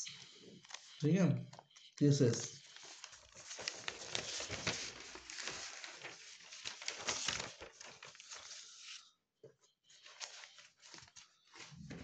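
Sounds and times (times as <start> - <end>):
paper pages rustling: 0.2 - 9.2, 9.8 - 12.0.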